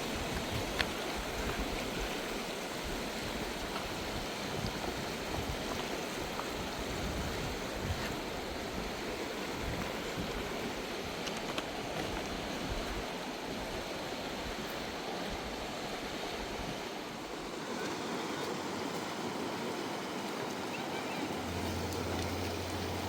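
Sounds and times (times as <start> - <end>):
rushing river water: 0.0 - 23.0.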